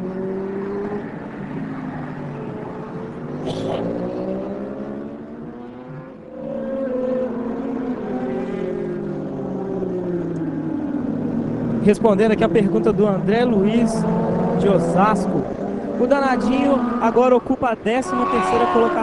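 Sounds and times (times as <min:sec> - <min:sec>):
motorcycle engines revving high: 0:00.0 - 0:19.0.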